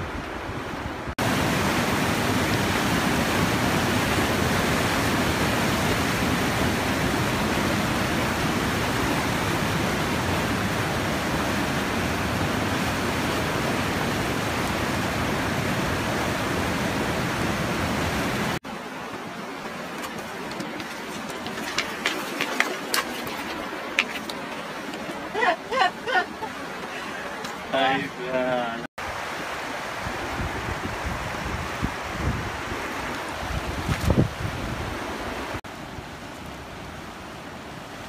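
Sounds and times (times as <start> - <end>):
turbulent river rushing: 0.0 - 38.0.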